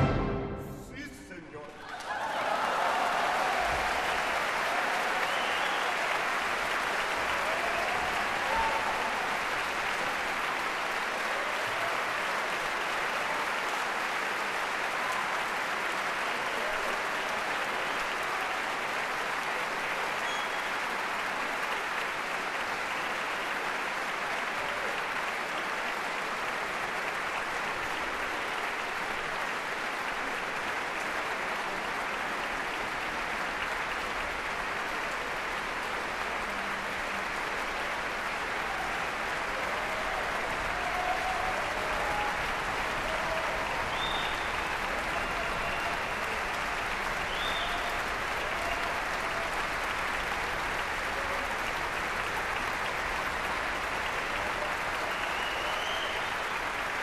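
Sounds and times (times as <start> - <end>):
large audience applauding: 1.6 - 57.0.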